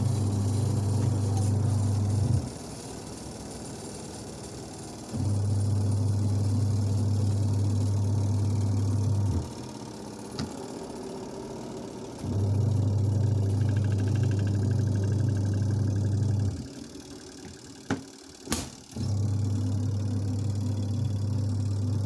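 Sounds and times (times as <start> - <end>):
spin-dryer motor running: 0.0 - 22.0.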